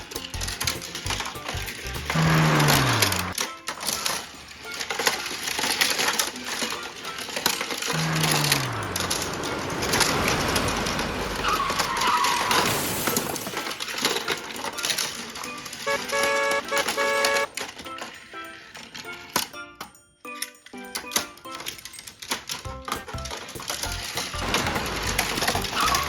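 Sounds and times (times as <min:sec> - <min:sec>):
toy cars knocking and scraping: 0:00.0 - 0:26.0.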